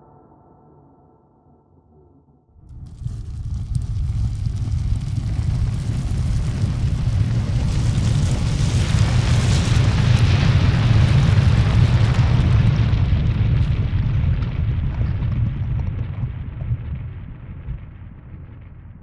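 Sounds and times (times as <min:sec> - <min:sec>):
deep noisy rumble: 0:02.6 - 0:19.0.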